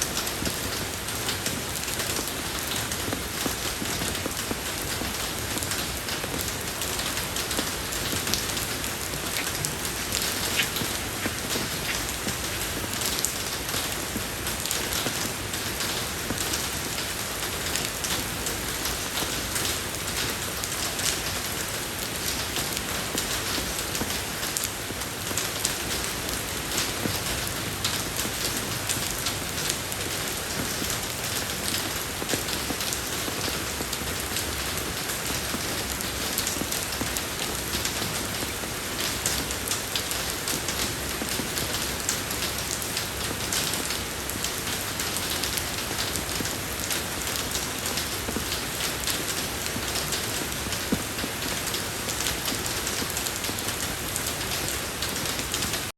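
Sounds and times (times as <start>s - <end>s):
rain falling on road: 0.0s - 55.9s.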